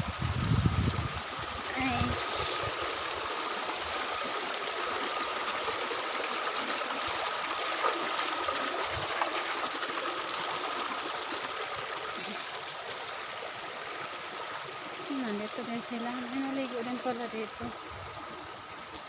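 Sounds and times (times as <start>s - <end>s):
stream running over rocks: 0.0s - 19.0s.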